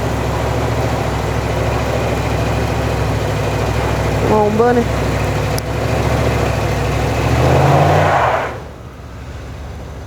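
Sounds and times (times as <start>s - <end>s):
vehicle engine revving hard: 0.0s - 8.8s.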